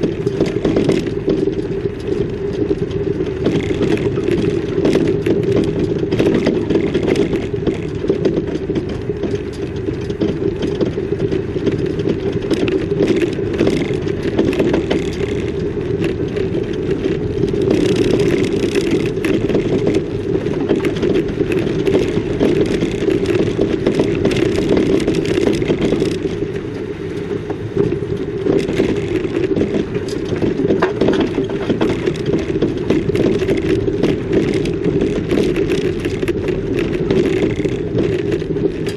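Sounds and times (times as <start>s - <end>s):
small rattles and knocks: 0.0s - 38.9s
vehicle engine and road noise: 0.0s - 38.9s.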